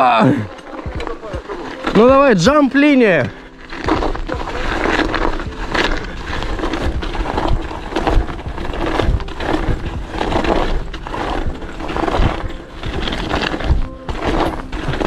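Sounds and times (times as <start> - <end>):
bike tyres crunching over snow: 0.0 - 15.0.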